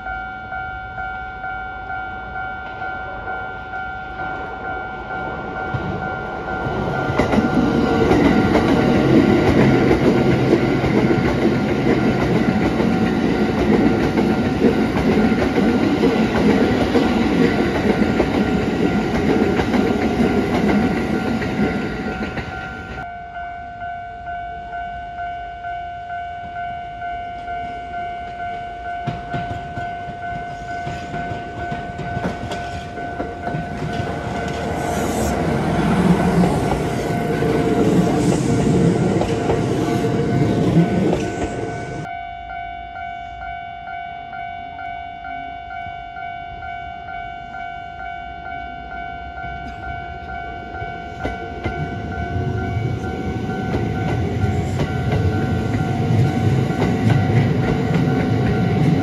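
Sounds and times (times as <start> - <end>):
electric train rumbling: 0.0 - 42.2, 45.7 - 59.0
approaching train: 0.0 - 59.0
crossing warning bell ringing: 0.0 - 59.0.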